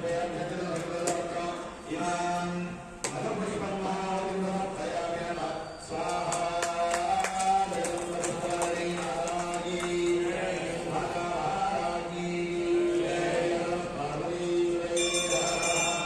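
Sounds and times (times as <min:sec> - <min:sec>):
mantras chanted in held tones: 0:00.0 - 0:16.0.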